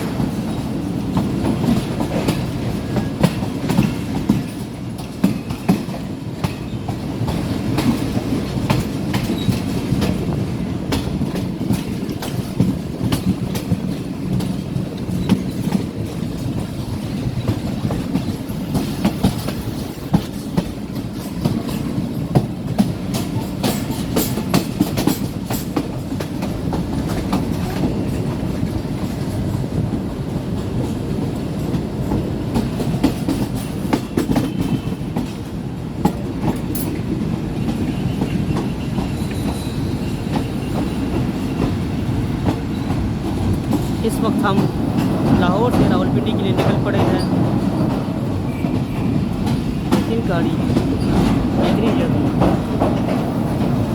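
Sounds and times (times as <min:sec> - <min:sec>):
train rumble: 0:00.0 - 0:53.9
wheels clacking over rails: 0:00.0 - 0:53.9.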